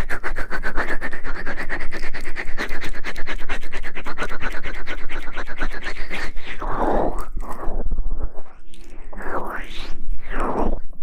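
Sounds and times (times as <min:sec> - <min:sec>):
fast scratching strokes: 0:00.0 - 0:11.0.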